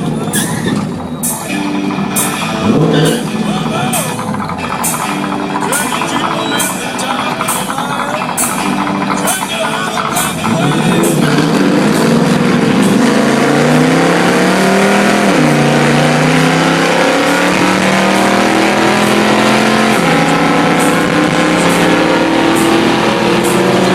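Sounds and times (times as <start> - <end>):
racing engine at full throttle: 0.0 - 23.9.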